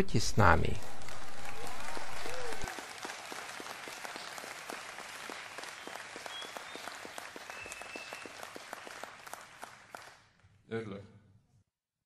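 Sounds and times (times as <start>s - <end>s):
audience applauding: 0.4s - 10.5s.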